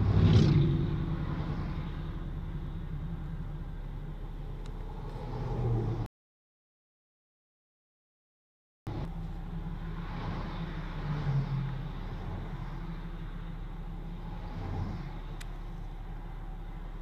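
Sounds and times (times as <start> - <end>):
highway traffic rumble: 0.0 - 6.1, 8.9 - 17.0.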